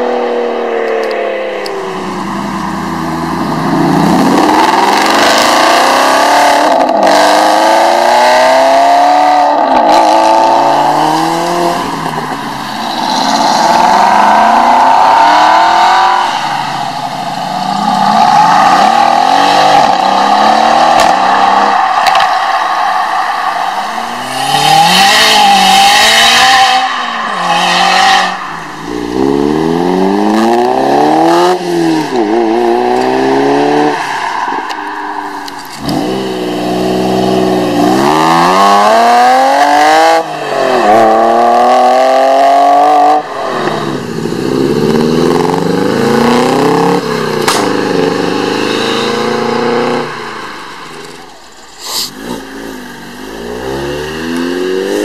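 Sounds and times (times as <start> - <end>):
sports car engines accelerating: 0.0 - 55.0.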